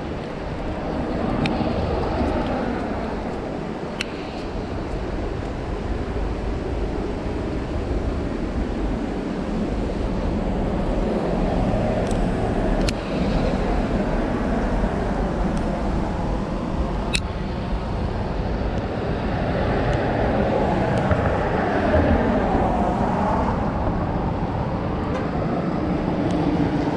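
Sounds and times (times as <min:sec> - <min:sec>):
traffic rumble: 0:00.0 - 0:26.9.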